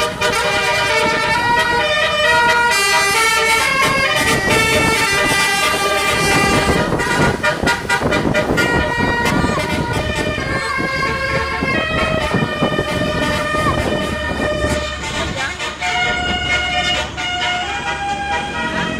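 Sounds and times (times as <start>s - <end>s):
low road noise rumble: 0.0s - 18.9s
multi-tone bus horn tune: 0.0s - 18.9s.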